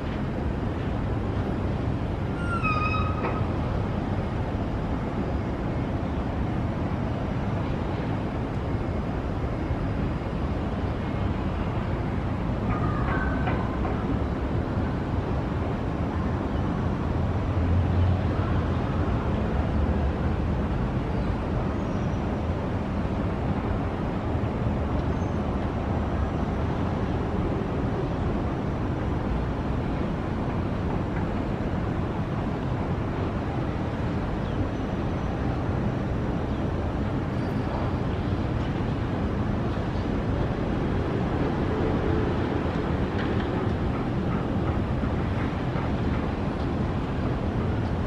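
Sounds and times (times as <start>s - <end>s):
distant road traffic rumble: 6.2s - 48.0s.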